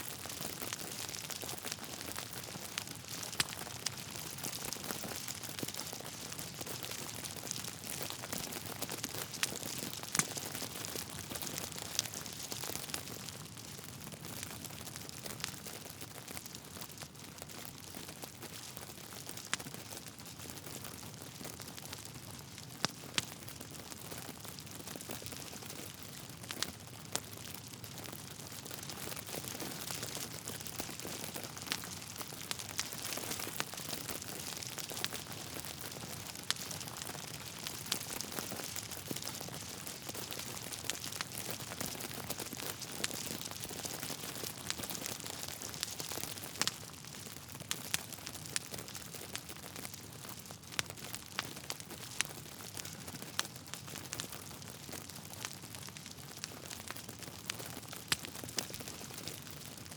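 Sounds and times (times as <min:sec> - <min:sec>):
fire hissing and crackling: 0:00.0 - 0:59.9.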